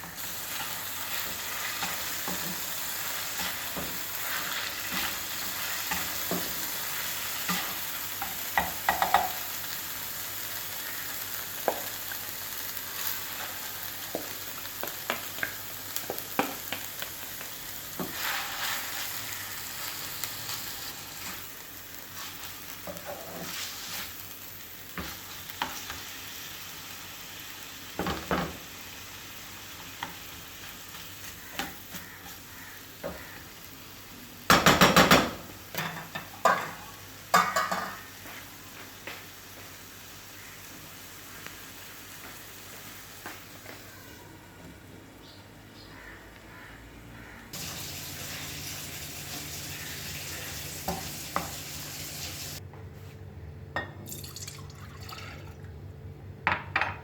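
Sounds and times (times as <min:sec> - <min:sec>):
food sizzling in frying pan: 0:00.0 - 0:44.1, 0:47.5 - 0:52.6.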